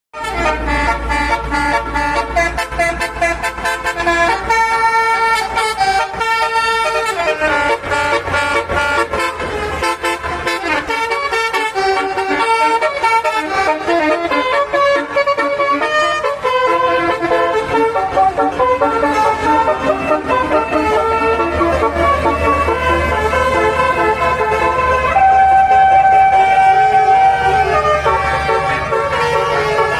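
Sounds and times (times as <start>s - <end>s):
multi-tone bus horn playing a tune: 0.1s - 29.9s.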